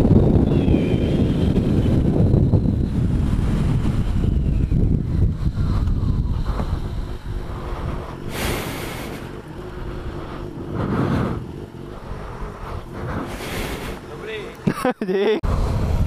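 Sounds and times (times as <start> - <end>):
motorcycle engine: 0.0 - 14.7
wind rushing over camera: 0.0 - 16.0.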